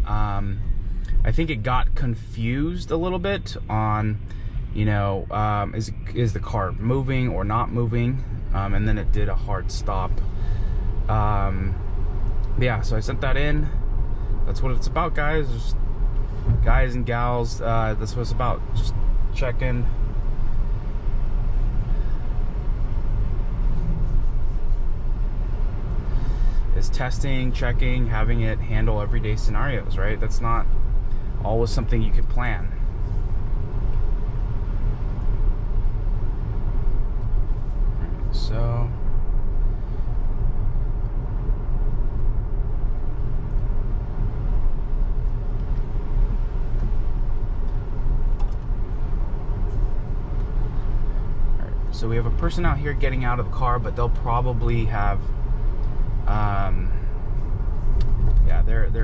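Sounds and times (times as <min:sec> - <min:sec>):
low road rumble in car cabin: 0:00.0 - 0:59.0.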